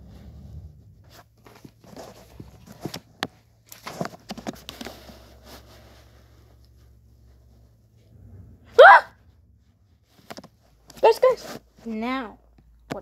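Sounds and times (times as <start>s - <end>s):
light rustling of papers: 0.1s - 8.1s, 9.5s - 13.0s.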